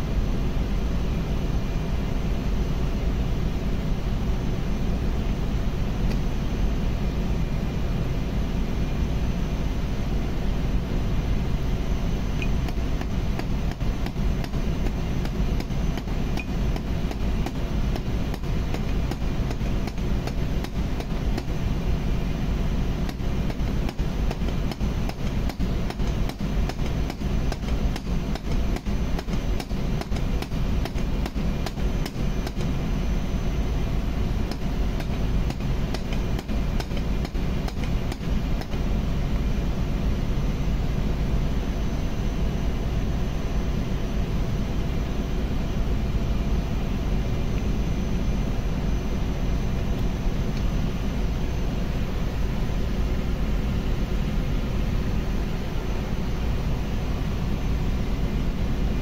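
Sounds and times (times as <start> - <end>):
engine-room machinery drone: 0.0 - 59.0.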